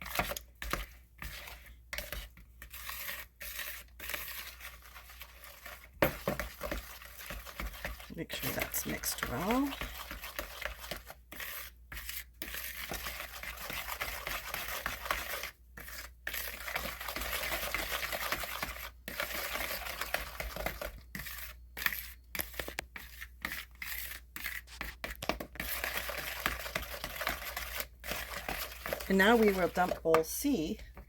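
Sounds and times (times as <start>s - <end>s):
wooden spoon scraping bowl: 0.0s - 31.0s.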